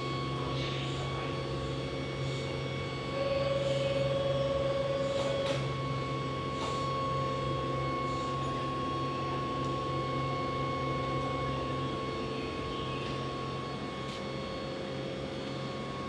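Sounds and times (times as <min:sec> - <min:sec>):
electric train hum: 0:00.0 - 0:16.0
loud held tone: 0:00.0 - 0:16.0.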